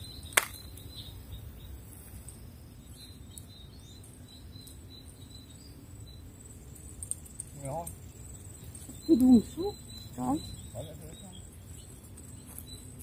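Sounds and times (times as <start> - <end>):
faint bird chirps: 0.0 - 13.0
high insect drone: 0.0 - 13.0.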